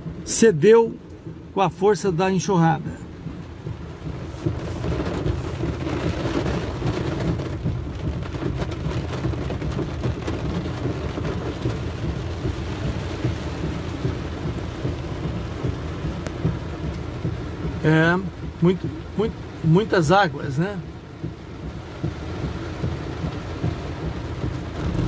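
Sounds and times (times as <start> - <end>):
heavy rain on car roof: 0.0 - 25.0.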